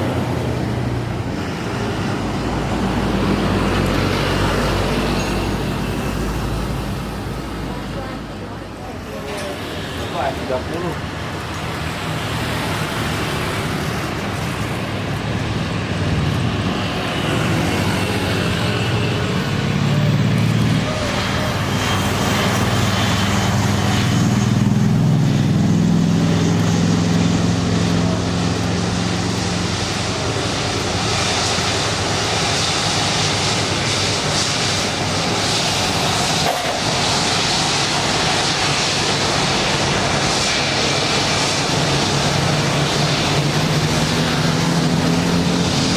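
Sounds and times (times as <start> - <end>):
jet airliner engine noise: 0.0 - 45.9
road traffic: 0.0 - 45.9.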